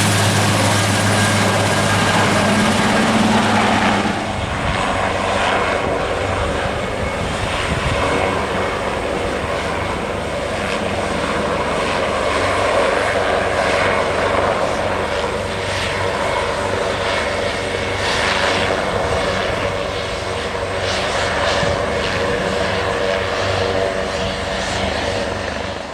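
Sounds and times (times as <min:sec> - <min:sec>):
helicopter turbine and rotor: 0:00.0 - 0:25.9.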